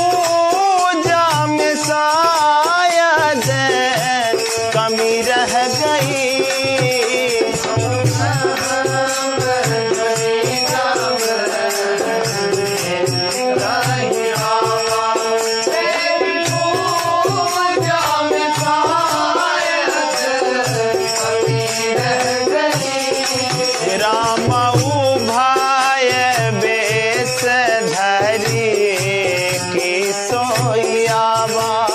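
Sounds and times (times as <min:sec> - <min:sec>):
rattling percussion: 0:00.0 - 0:31.9.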